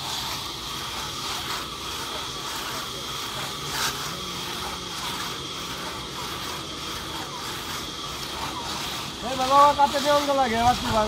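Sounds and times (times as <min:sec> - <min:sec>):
crosscut saw rasping through log: 0:00.0 - 0:11.0.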